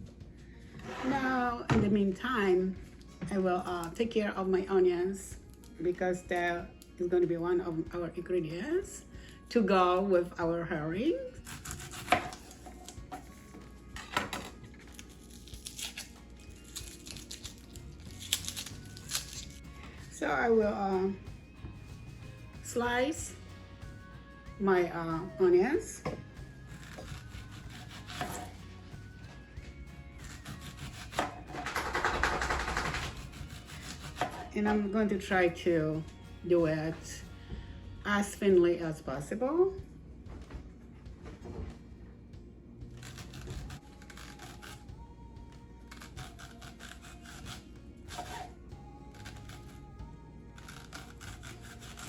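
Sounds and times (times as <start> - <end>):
soft background music: 0.0 - 52.0.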